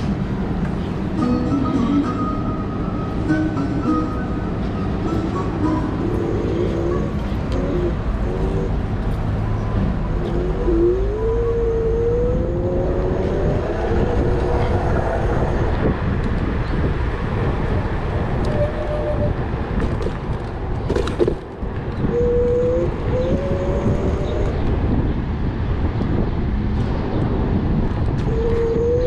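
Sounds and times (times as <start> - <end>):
road rumble: 0.0 - 29.0
wind on microphone: 4.8 - 29.0.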